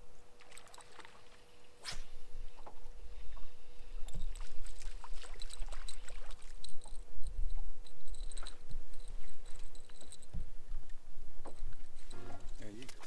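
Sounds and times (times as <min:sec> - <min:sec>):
water lapping against boat hull: 0:02.4 - 0:13.0.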